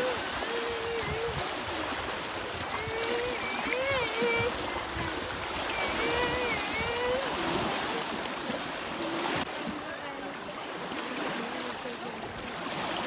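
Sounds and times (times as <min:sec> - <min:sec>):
lake water lapping: 0:00.0 - 0:13.0.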